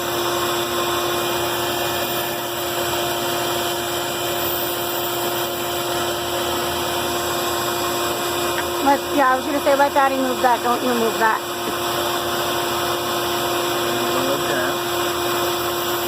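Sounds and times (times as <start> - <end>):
band saw running: 0.0 - 16.0.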